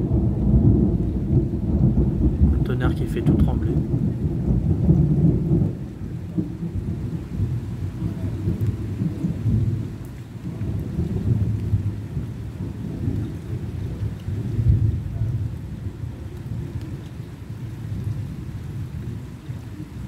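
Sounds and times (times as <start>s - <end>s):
falling rain: 0.0s - 20.0s
rolling thunder: 0.0s - 20.0s.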